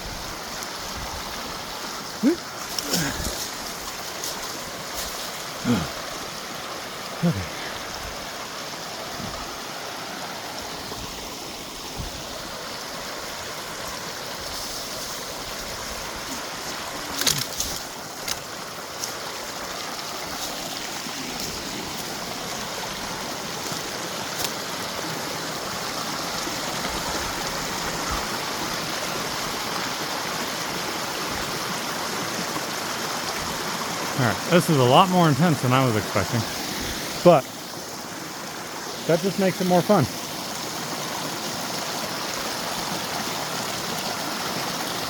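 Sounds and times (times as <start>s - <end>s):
creek running: 0.0s - 45.0s.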